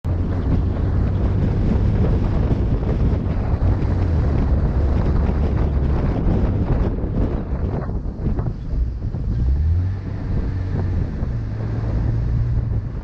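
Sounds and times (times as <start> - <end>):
vehicle engine rumbling: 0.0 - 13.0
wind buffeting microphone: 0.0 - 13.0.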